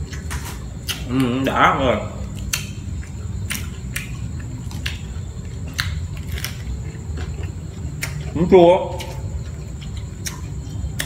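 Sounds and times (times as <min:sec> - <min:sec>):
chewing crisp food: 0:00.0 - 0:11.0
steady low hum: 0:00.0 - 0:11.0.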